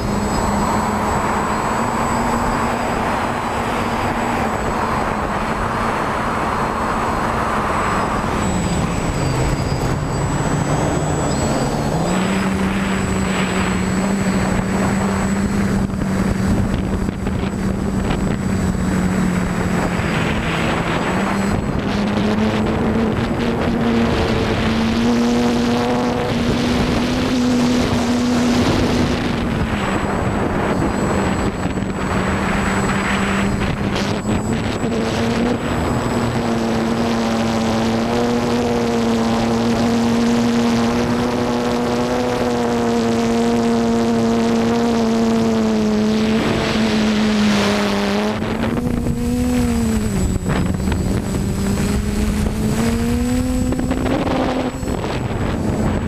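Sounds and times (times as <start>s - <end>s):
drone propellers humming: 0.0s - 56.0s
wind noise on microphone: 0.0s - 56.0s.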